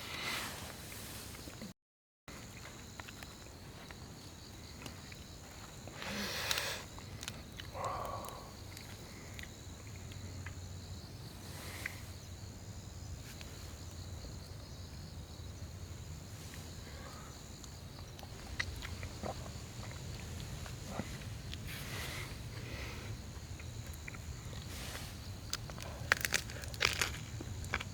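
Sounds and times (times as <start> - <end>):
insects calling in high tones: 2.6 - 27.7.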